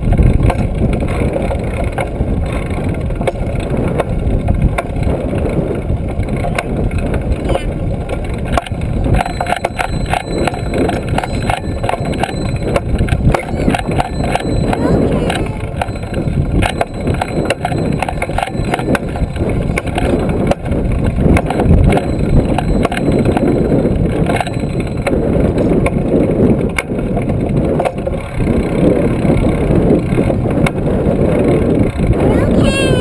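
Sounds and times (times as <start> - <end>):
bike clicks and rattles: 0.0 - 33.0
wind rumble on microphone: 0.0 - 33.0.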